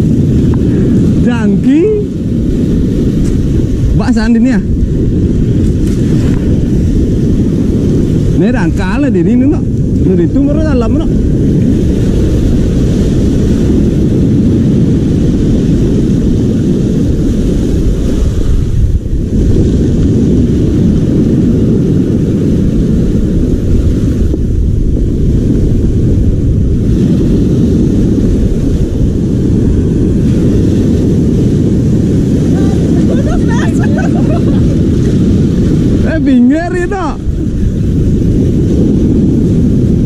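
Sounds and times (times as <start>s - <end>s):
surf breaking: 0.0s - 40.0s
wind buffeting microphone: 0.0s - 40.0s.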